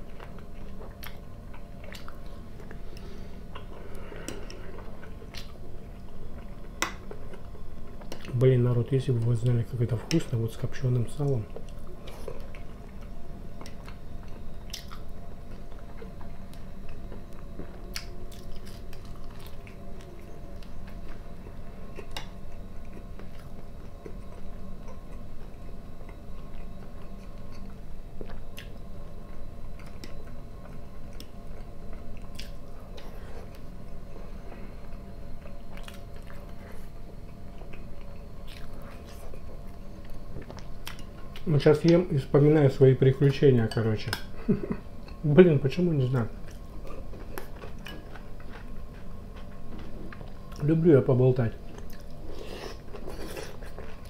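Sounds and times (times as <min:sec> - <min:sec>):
chewing and biting food: 0:00.0 - 0:08.4, 0:11.2 - 0:34.2, 0:34.8 - 0:42.0, 0:46.1 - 0:50.8, 0:51.6 - 0:54.0
faint steady background hum: 0:00.0 - 0:54.0.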